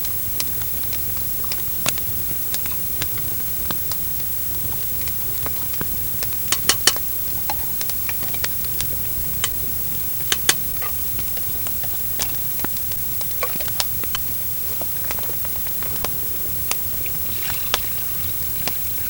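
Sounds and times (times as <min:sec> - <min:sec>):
campfire crackling: 0:00.0 - 0:19.0
steady low hiss: 0:00.0 - 0:19.0.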